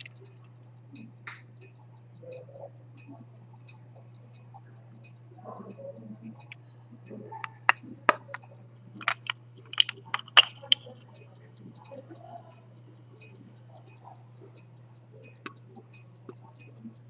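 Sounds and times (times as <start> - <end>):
pocket watch ticking: 0.0 - 17.0
sharp metallic clicks: 0.0 - 17.0.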